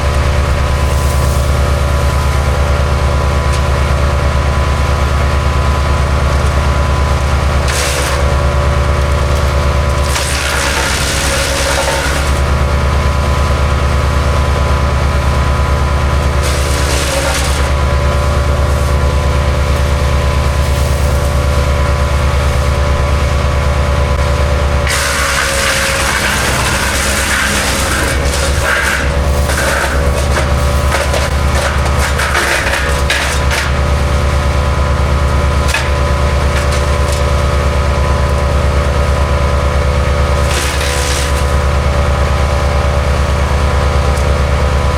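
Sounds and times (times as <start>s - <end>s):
wood chipper engine running: 0.0s - 44.9s.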